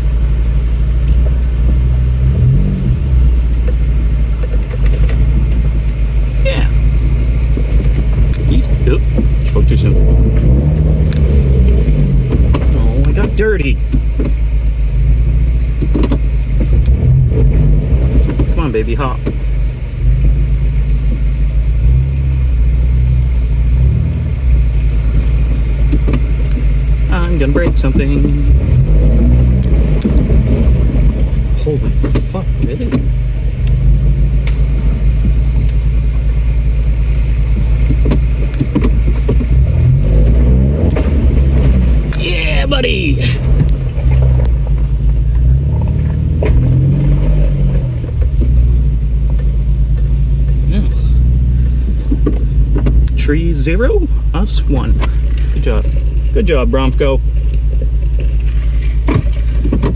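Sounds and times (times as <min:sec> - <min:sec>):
truck engine rumbling under load: 0:00.0 - 0:59.9.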